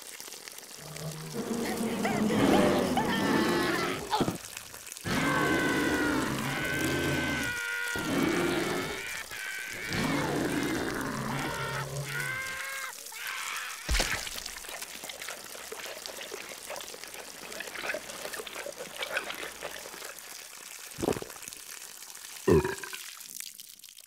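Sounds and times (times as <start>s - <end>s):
liquid pouring and trickling: 0.0s - 24.0s
small drips: 0.0s - 24.0s.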